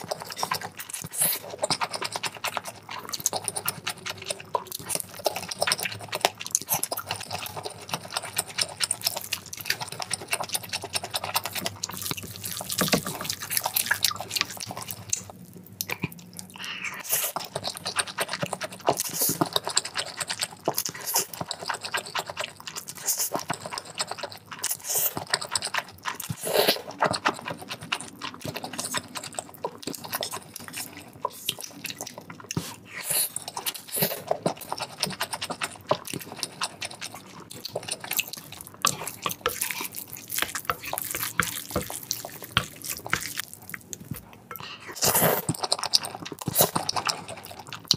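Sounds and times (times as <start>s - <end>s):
slurping and chewing noodles: 0.0s - 47.9s.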